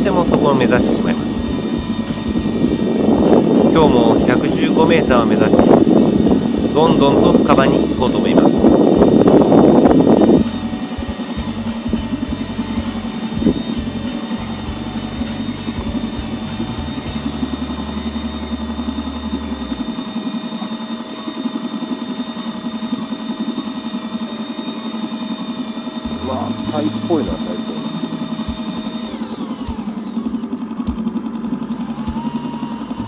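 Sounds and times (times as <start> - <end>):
small machine whirring: 0.0 - 33.0.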